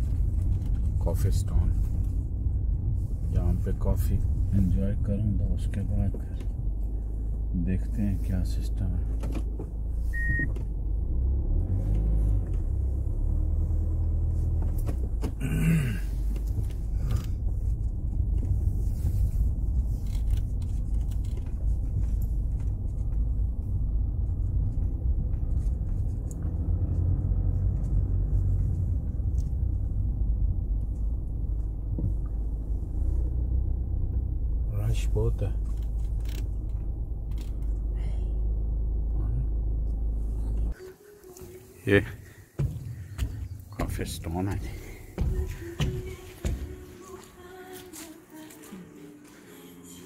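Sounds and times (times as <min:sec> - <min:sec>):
car engine and tyre rumble: 0:00.0 - 0:48.1.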